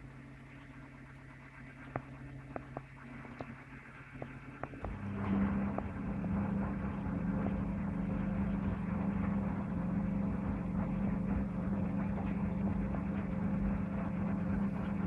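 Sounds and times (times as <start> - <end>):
washing machine running: 2.2 - 15.0.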